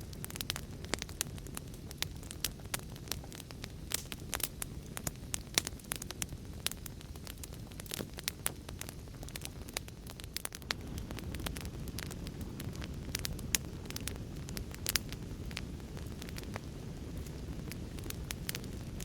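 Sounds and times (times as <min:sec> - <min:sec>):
fire crackling and popping: 0:00.0 - 0:19.0
low rumble of burning: 0:00.0 - 0:19.0.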